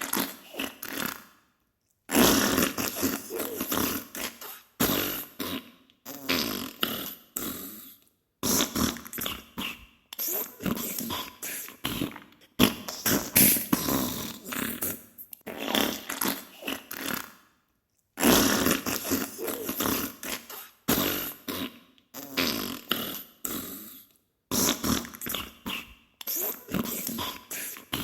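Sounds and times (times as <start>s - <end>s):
wet farting and sputtering: 0.0s - 1.3s, 2.1s - 7.7s, 8.4s - 17.4s, 18.2s - 23.7s, 24.5s - 28.0s.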